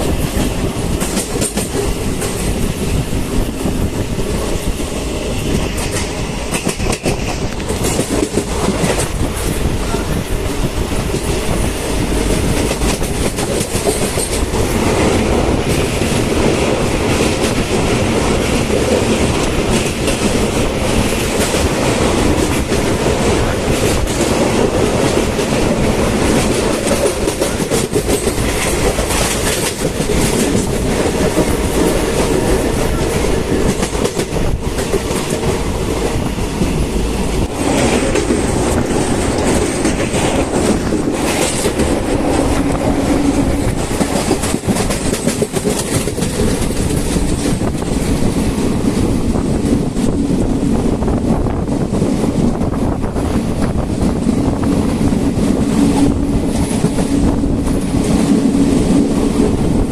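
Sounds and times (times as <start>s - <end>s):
train rumbling along track: 0.0s - 59.9s.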